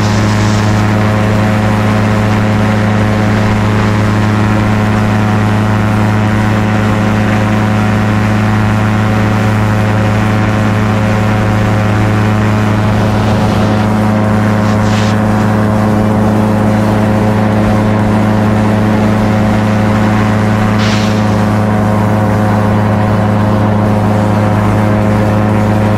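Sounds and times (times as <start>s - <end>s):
light aircraft engine and propeller: 0.0s - 25.9s.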